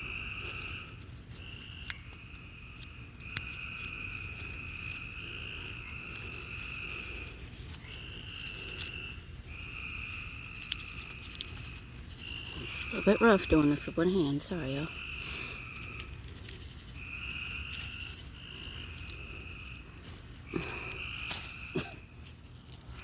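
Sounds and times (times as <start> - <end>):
frogs trilling: 0.0 - 23.0.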